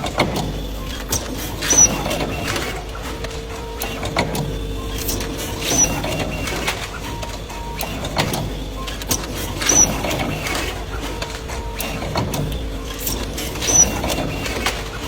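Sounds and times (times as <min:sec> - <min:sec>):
packing machine humming: 0:00.0 - 0:15.0.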